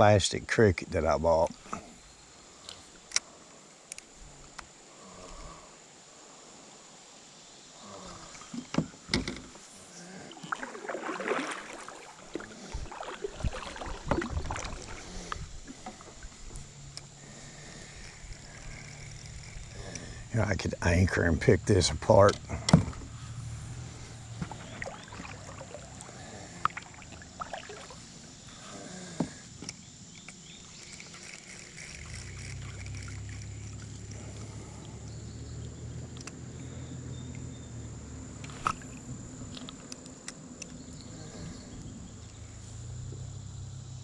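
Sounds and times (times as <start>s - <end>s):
steady background hiss: 0.0s - 44.0s.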